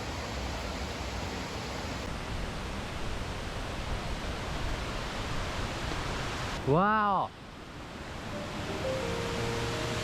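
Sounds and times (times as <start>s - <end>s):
falling water rushing: 0.0s - 10.0s.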